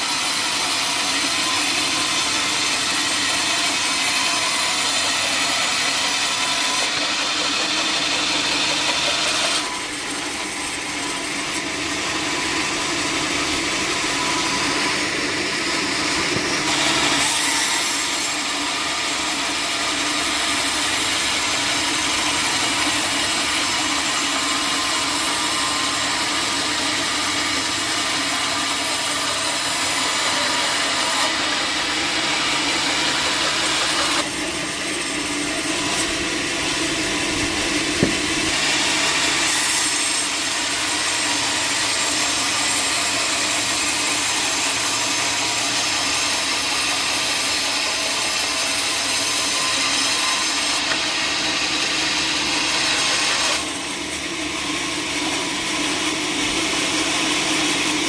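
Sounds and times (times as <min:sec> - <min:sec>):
saw rasping through wood: 0:00.0 - 0:58.0.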